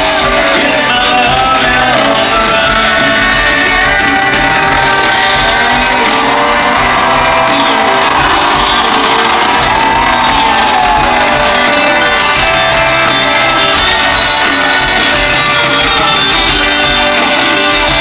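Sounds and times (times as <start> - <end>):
crowd shouting: 0.0 - 18.0
live country-rock band: 0.0 - 18.0.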